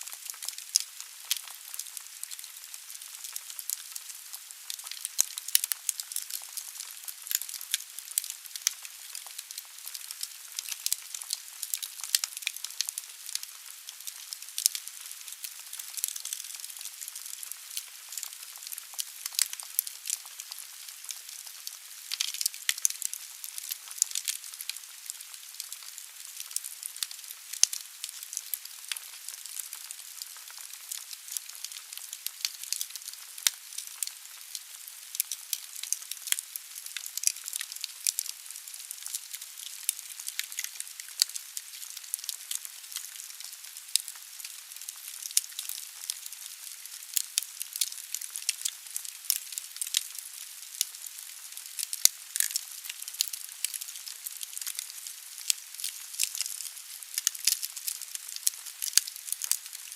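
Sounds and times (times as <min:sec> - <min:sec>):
firewood crackling in a fireplace: 0:00.0 - 0:59.9.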